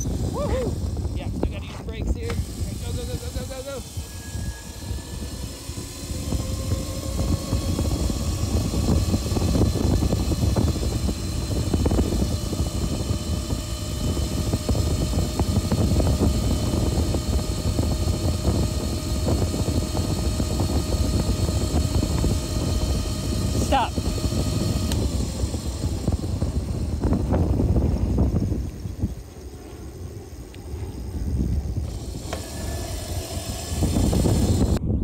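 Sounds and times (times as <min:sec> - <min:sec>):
faint thin whine: 0:00.0 - 0:35.0
wind buffeting microphone: 0:00.0 - 0:35.0.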